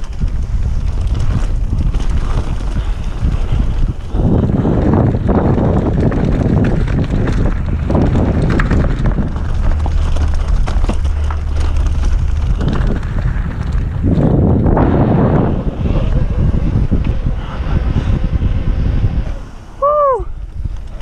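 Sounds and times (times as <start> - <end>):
bike knocks and rattles: 0.0 - 17.4
bike tyres rolling on dirt: 0.0 - 21.0
wind buffeting microphone: 0.0 - 21.0.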